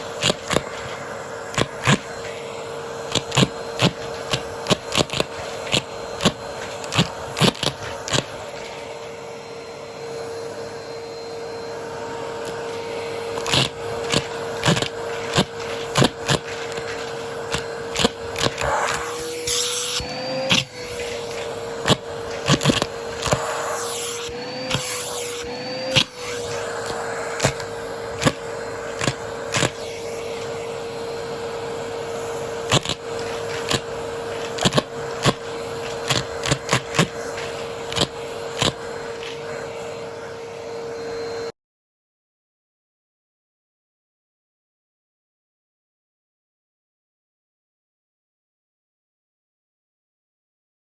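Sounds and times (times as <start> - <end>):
vacuum cleaner motor whine: 0.0 - 41.6.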